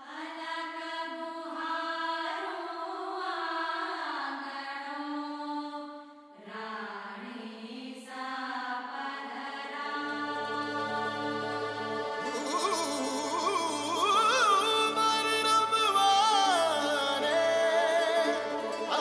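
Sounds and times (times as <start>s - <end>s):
slow chant-like singing: 0.0s - 19.0s.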